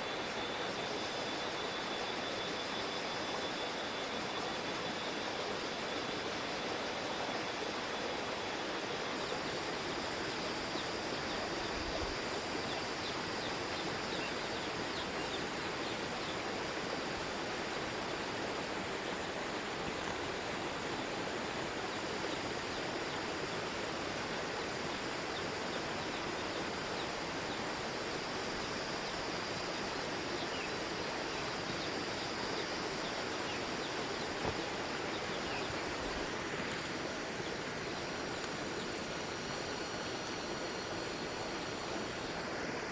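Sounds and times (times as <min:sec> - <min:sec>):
rushing water: 0:00.0 - 0:42.9.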